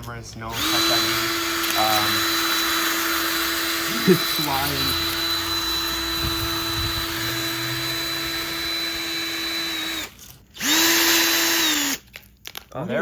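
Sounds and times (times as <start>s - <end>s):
cordless drill running: 0.5s - 12.1s.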